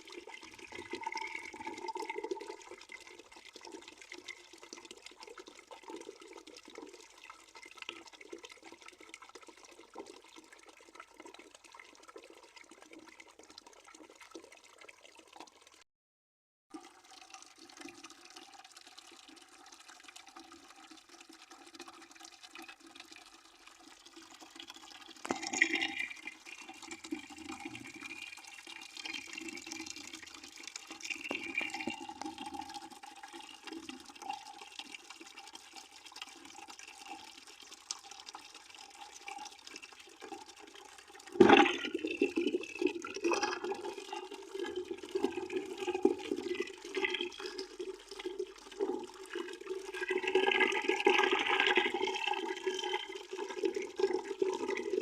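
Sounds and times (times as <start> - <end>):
water running into a bucket: 0.0 - 15.8, 16.7 - 55.0.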